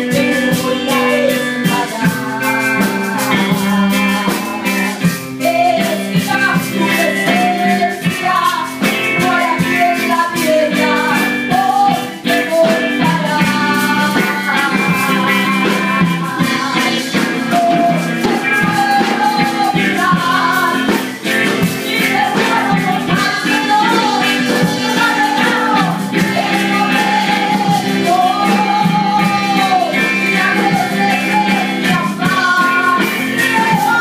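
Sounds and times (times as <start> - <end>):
instrumental accompaniment: 0.0 - 34.0
woman singing into microphone: 0.0 - 34.0.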